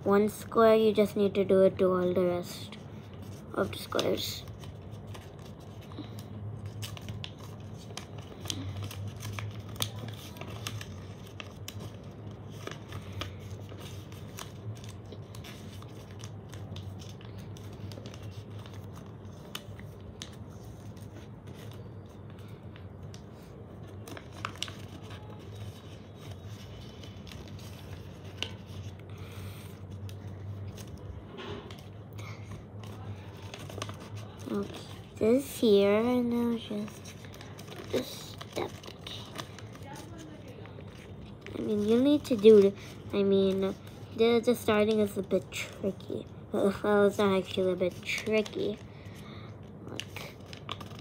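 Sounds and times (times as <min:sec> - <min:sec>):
paper being folded: 0:00.1 - 0:49.2, 0:49.8 - 0:51.0.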